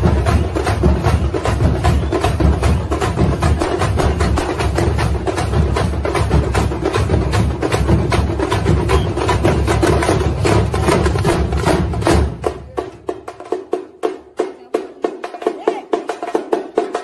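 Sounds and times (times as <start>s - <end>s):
fast drumming with sticks: 0.0s - 17.0s.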